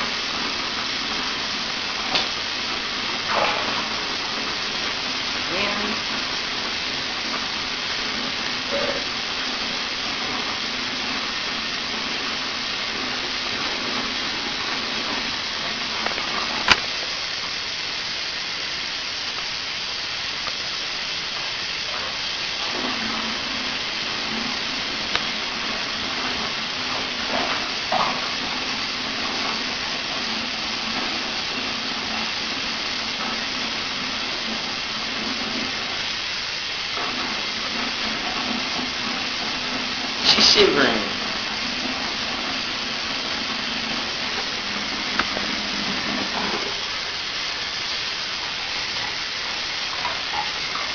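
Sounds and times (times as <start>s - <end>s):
shower water hissing: 0.0s - 50.9s.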